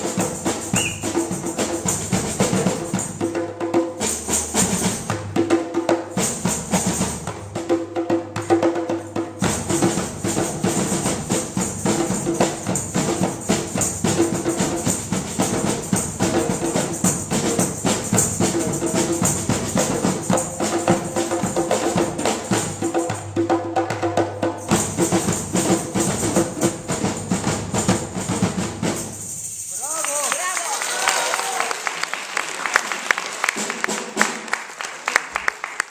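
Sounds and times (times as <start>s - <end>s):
drum ensemble playing: 0.0s - 30.5s, 33.0s - 34.8s.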